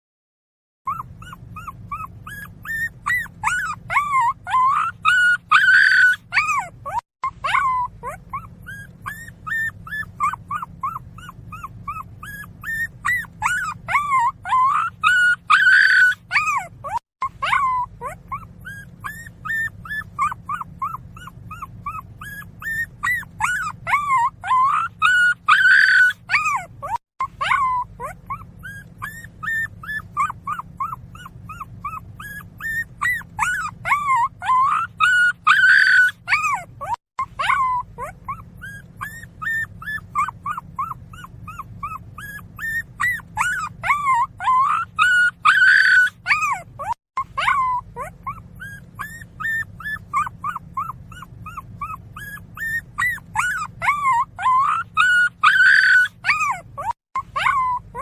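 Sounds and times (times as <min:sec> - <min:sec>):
puppy whimpering and crying: 0:00.9 - 0:58.0
puppy yelping: 0:00.9 - 0:58.0.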